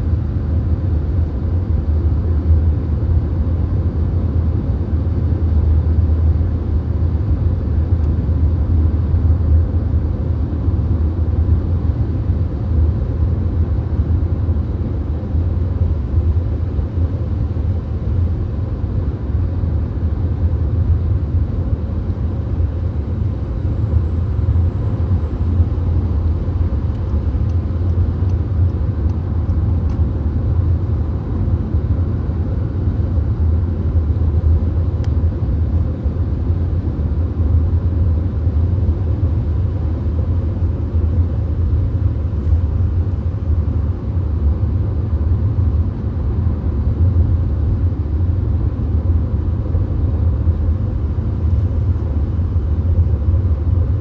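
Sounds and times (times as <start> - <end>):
road and wind noise in car: 0.0 - 54.0.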